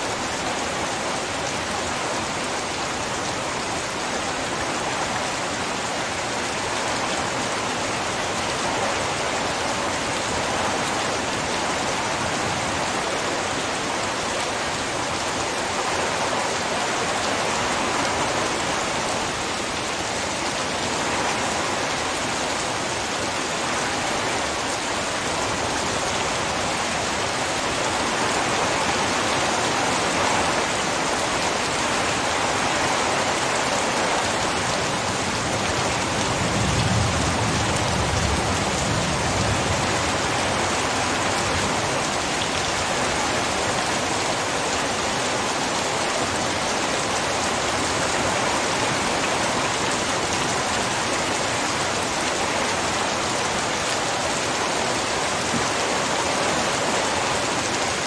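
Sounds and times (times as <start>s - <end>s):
heavy rain downpour: 0.0s - 58.0s.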